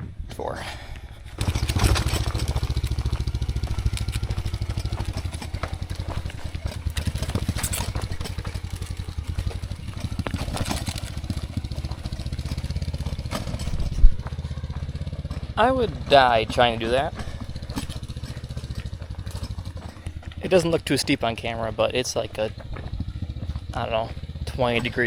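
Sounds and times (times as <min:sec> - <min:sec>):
small motorcycle engine: 0:01.2 - 0:25.0.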